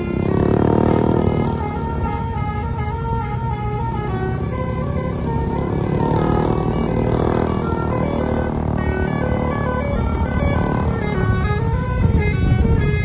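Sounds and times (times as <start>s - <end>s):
bus engine rumble: 0.0s - 13.0s
bus horn playing a tune: 0.0s - 13.0s.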